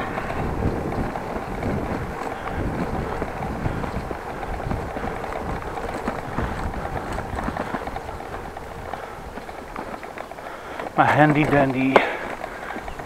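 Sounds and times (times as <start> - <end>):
electric tool rattling: 0.0 - 13.0
wind rushing over microphone: 0.0 - 13.0.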